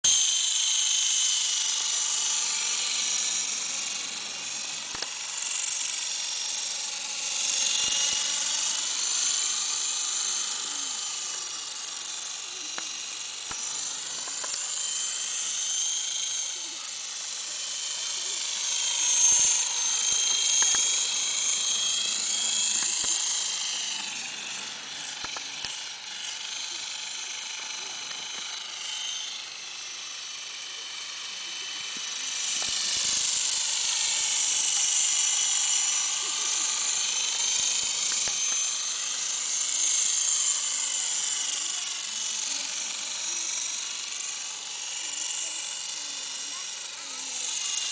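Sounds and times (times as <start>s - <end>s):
model helicopter rotor whine: 0.0s - 47.9s.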